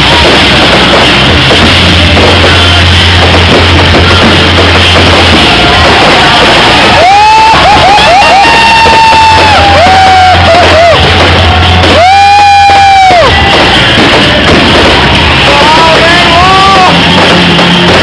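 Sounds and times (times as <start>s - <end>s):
fireworks crackling and banging: 0.0s - 18.0s
whistling rockets: 0.0s - 18.0s.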